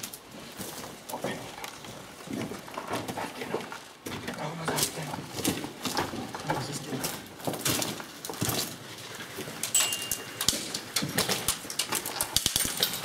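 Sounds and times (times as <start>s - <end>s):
footsteps crunching on concrete: 0.0s - 11.7s
gear clicks and knocks: 0.0s - 13.0s.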